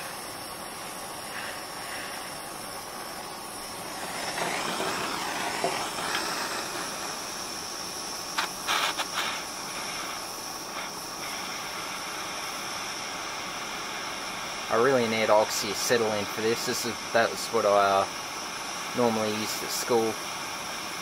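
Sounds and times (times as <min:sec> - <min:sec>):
propane torch hissing: 0:00.0 - 0:21.0.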